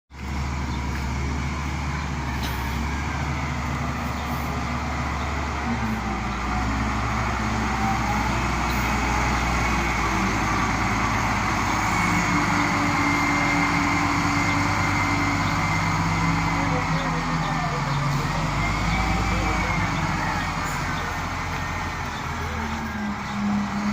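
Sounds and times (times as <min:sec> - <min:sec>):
bulldozer diesel engine humming: 0:00.1 - 0:23.9.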